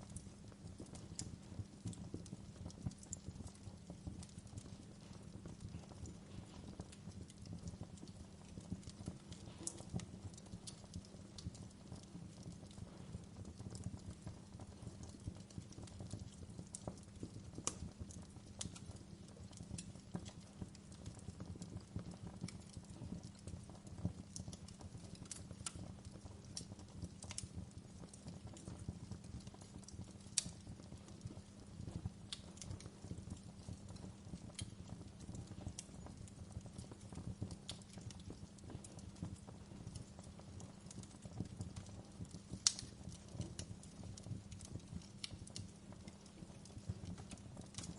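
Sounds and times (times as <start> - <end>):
burning wood crackling and popping: 0.0 - 47.9
campfire flames rumbling: 0.0 - 47.9.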